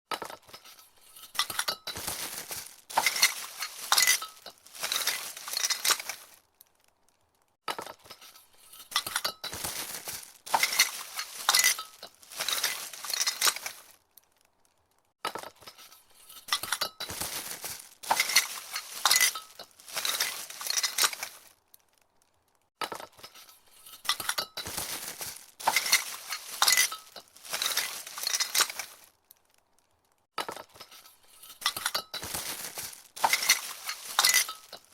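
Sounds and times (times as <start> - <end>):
glass ornaments clinking in a box: 0.4 - 6.4, 8.1 - 13.9, 15.6 - 21.4, 23.0 - 29.0, 30.4 - 34.9.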